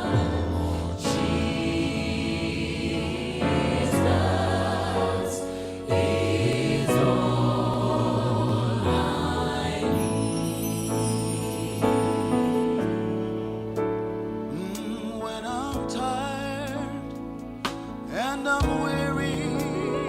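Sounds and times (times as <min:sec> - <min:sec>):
gospel choir singing chords: 0:00.0 - 0:15.7, 0:17.8 - 0:20.0.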